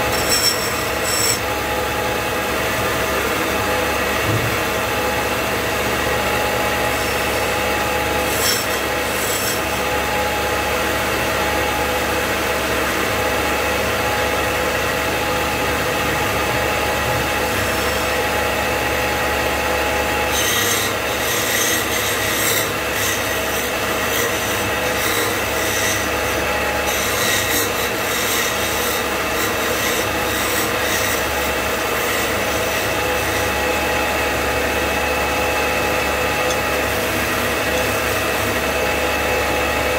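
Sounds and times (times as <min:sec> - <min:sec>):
chisel cutting spinning wood: 0:00.0 - 0:39.9
lathe motor running: 0:00.0 - 0:39.9.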